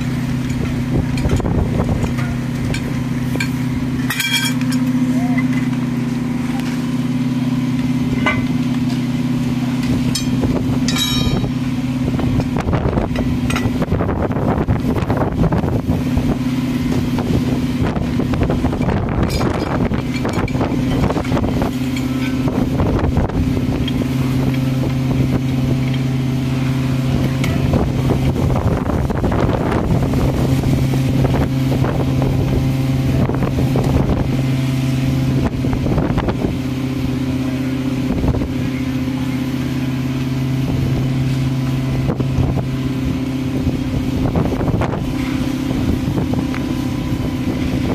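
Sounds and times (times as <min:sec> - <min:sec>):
wind noise on microphone: 0:00.0 - 0:05.0, 0:07.6 - 0:47.9
diesel engine running: 0:00.0 - 0:47.9.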